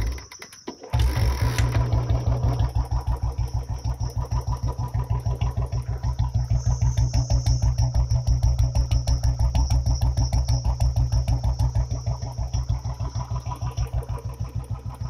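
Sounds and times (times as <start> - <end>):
motorcycle engine idling: 0.0 - 15.0
motorcycle engine kick-started: 0.0 - 15.0.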